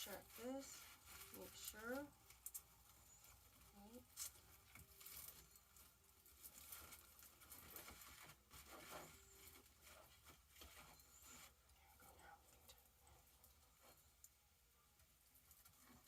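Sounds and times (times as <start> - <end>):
faint rustling of craft materials: 0.0 - 16.0.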